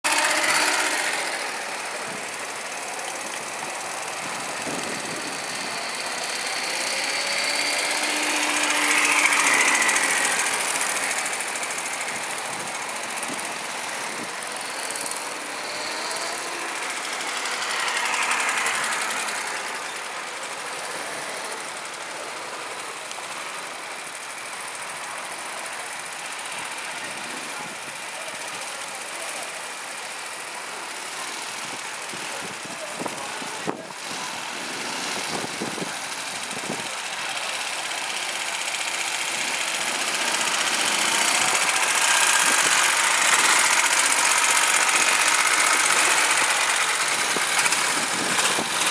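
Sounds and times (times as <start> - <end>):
go-kart engines running: 0.0 - 48.9
karts passing close by: 0.0 - 48.9.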